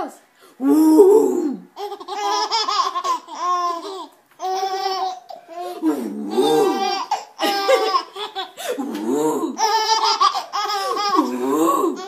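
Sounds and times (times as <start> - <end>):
babies laughing: 1.8 - 12.0.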